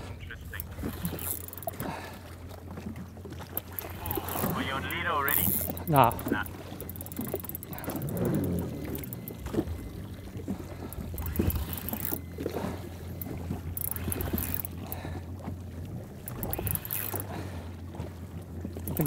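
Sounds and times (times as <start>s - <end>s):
jet ski engine idling: 0.0s - 19.0s.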